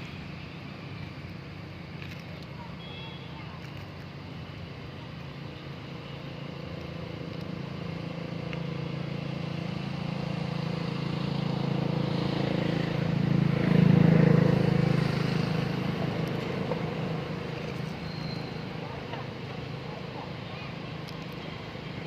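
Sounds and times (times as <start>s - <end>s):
engine drone: 0.0s - 22.0s.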